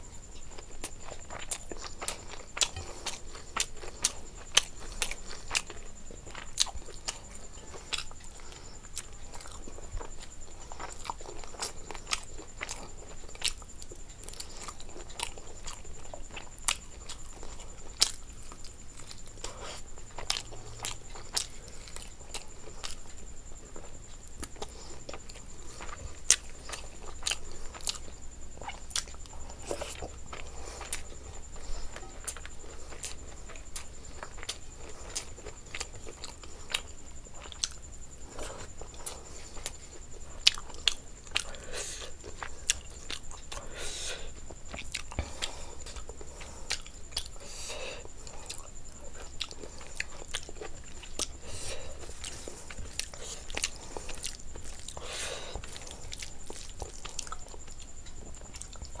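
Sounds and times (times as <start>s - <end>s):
faint high whine: 0.0s - 59.0s
crisp chewing crunches: 0.1s - 59.0s.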